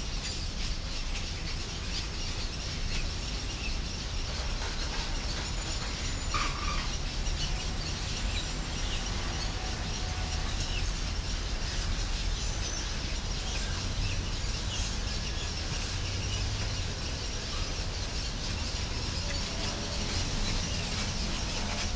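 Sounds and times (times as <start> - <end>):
birds chirping and calling: 0.0 - 21.9.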